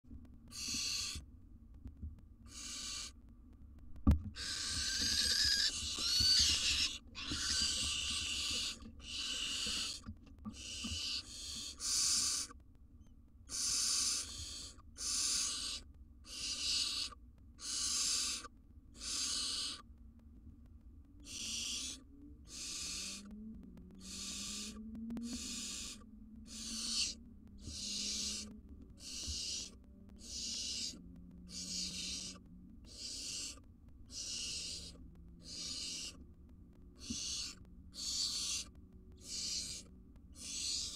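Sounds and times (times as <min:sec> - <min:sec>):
owl nestlings hissing: 0:00.5 - 0:01.2, 0:02.5 - 0:03.2, 0:04.4 - 0:12.6, 0:13.5 - 0:19.8, 0:21.2 - 0:23.3, 0:24.0 - 0:36.2, 0:37.0 - 0:40.9.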